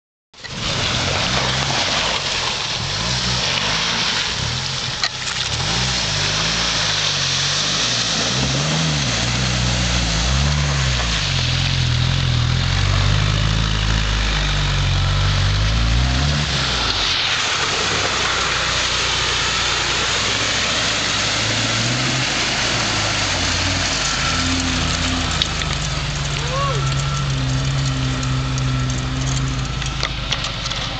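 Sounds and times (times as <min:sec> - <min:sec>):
engines revving: 0:00.5 - 0:30.9.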